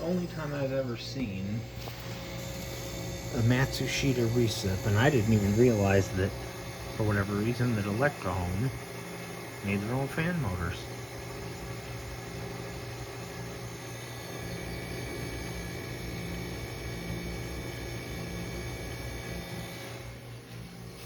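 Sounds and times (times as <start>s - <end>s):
compressor humming: 0.0s - 21.0s
fan motor whirring: 0.0s - 21.0s.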